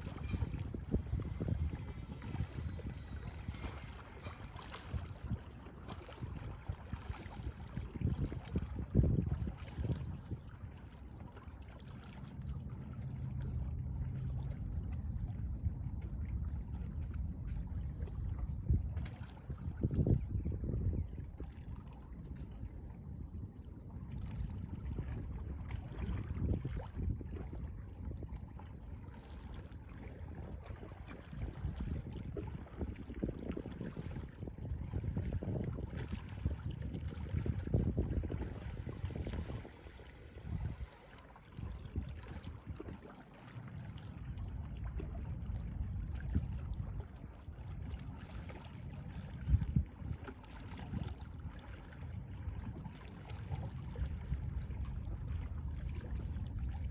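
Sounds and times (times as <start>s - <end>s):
wind rumbling on microphone: 0.0s - 56.9s.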